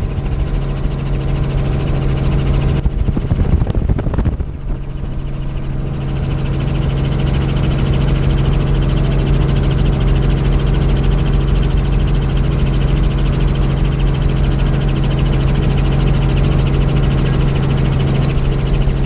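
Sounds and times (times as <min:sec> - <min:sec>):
helicopter rotor and engine: 0:00.0 - 0:19.0.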